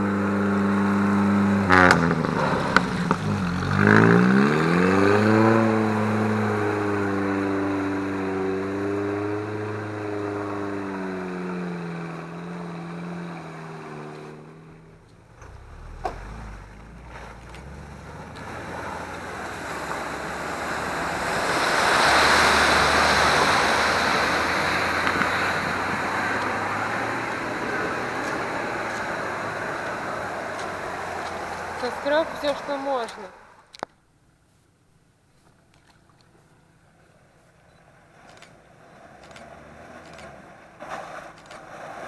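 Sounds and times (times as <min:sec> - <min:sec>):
vehicle churning through mud and water: 0:00.0 - 0:33.8, 0:35.6 - 0:42.0
off-road vehicle engine: 0:00.0 - 0:34.1, 0:35.4 - 0:42.0.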